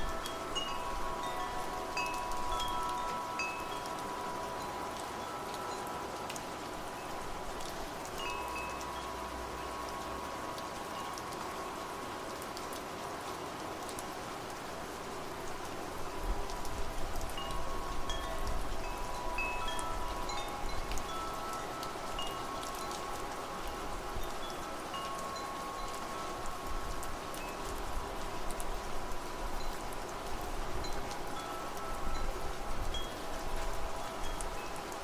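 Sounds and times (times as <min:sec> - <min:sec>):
wind chimes ringing: 0:00.0 - 0:12.2, 0:16.9 - 0:35.0
low rumble of wind: 0:00.0 - 0:35.0
steady rain: 0:00.0 - 0:35.0.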